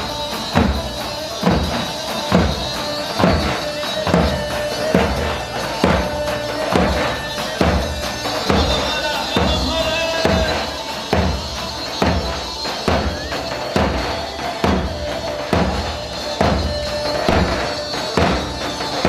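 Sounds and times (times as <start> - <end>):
heavy drum beat: 0.0 - 19.0.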